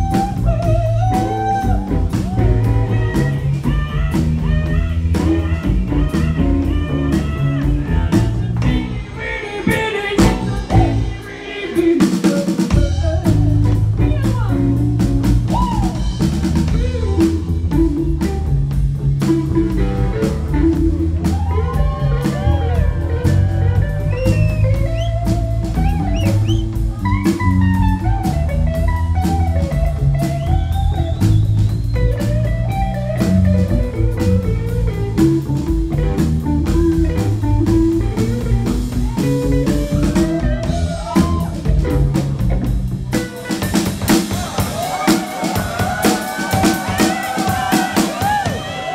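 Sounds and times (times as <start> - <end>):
blues band playing: 0.0 - 48.9.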